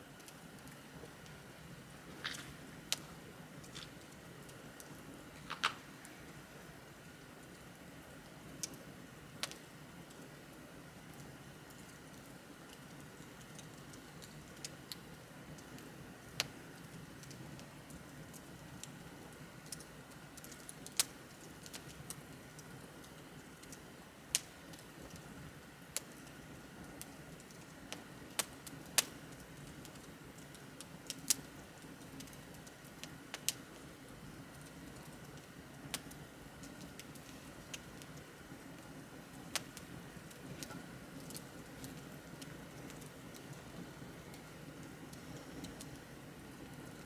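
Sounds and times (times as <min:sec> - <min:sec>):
bonfire crackling and popping: 0:00.0 - 0:47.0
flames rustling: 0:00.1 - 0:47.0.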